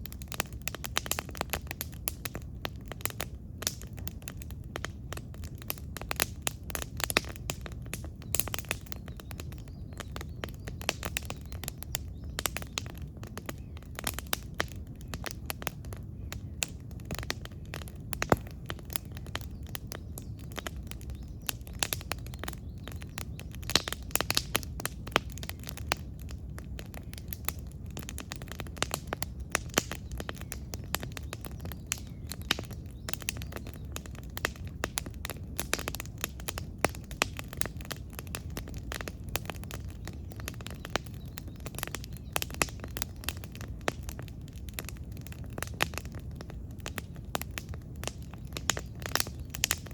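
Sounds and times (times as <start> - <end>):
campfire crackling and popping: 0.0 - 49.9
low rumble of flames: 0.0 - 49.9.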